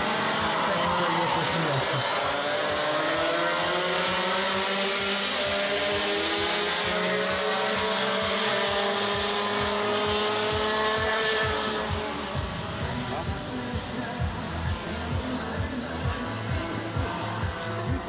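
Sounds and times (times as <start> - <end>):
racing kart engines accelerating: 0.0 - 18.0.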